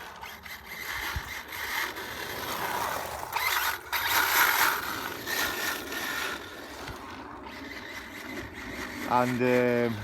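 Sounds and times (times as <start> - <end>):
rc car motor whirring: 0.0 - 10.0.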